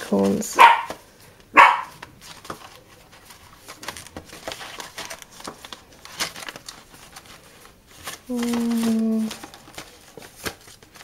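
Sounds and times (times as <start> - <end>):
paper seed packets rustling: 0.0 - 11.0.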